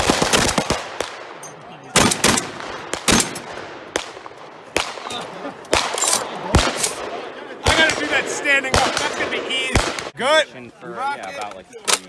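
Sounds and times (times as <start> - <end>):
gunshots with short echo: 0.0 - 10.2.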